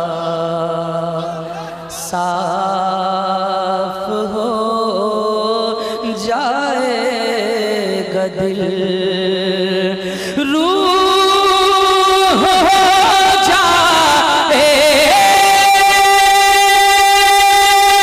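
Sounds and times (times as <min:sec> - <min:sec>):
man singing through a microphone: 0:00.0 - 0:18.0.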